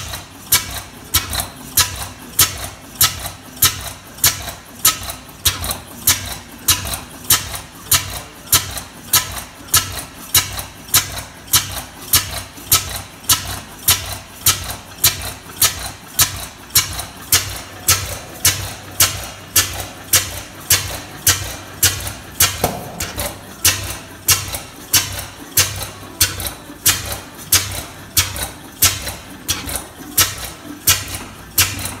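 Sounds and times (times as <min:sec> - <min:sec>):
stationary engine running: 0:00.0 - 0:32.0.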